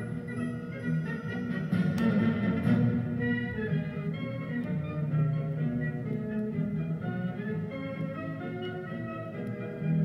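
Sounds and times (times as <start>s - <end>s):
brass and percussion music: 0.0s - 10.0s.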